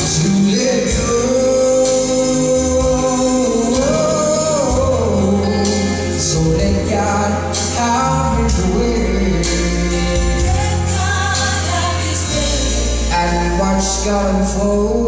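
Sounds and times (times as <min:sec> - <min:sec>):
gospel song backing track: 0:00.0 - 0:15.0.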